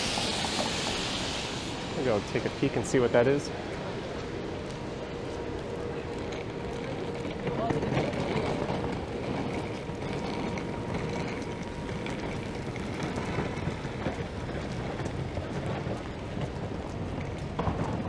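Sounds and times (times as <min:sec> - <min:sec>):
traffic on wet pavement: 0:00.0 - 0:18.0.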